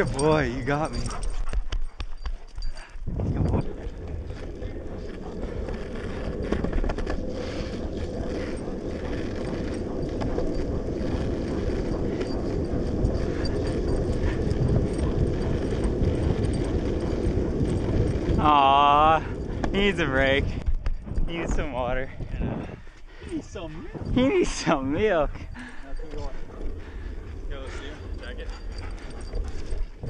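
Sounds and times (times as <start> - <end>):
longboard wheels rolling on asphalt: 3.1 - 30.0.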